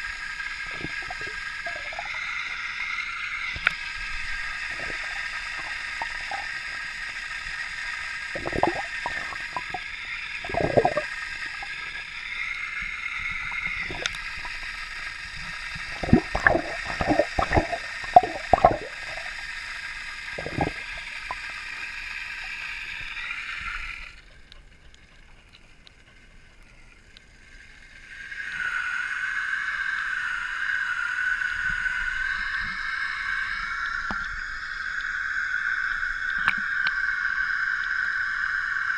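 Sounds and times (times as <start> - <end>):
underwater splashing and bubbling: 0.0 - 27.2, 31.2 - 38.9
muffled underwater whine: 0.0 - 38.9.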